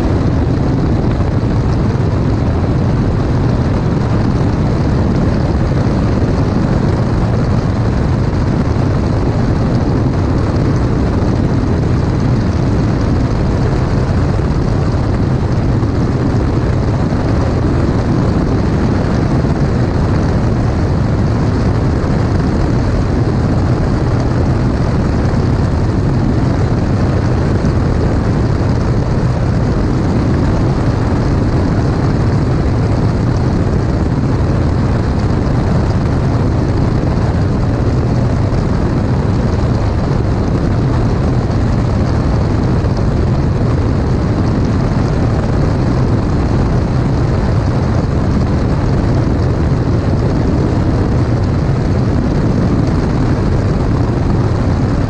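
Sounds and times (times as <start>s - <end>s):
propeller aircraft engine drone: 0.0s - 55.0s
rushing wind: 0.0s - 55.0s.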